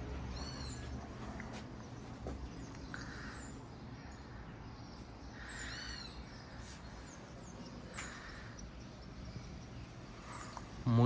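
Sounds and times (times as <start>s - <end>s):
birds chirping: 0.0s - 11.0s
low background noise: 0.0s - 11.0s.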